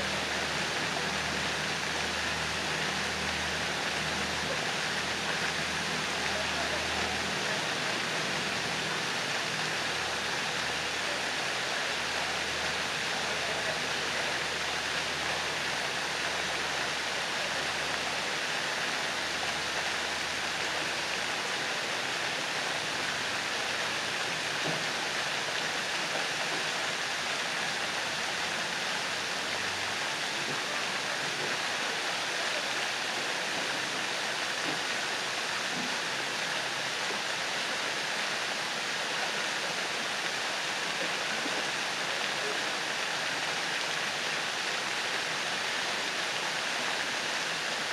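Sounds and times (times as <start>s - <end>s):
fountain jets splashing into water: 0.0s - 47.9s.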